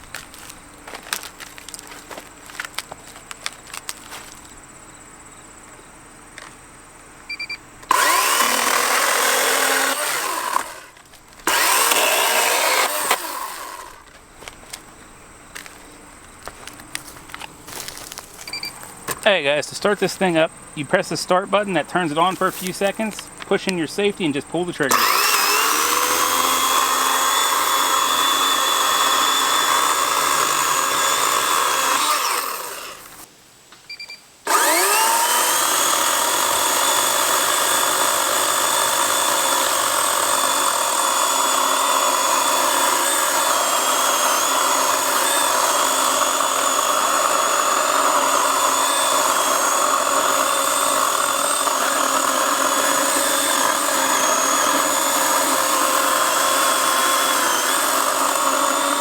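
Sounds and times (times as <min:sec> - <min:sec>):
electric chainsaw whining: 0:00.0 - 0:04.6, 0:07.4 - 0:33.3, 0:34.5 - 0:59.0.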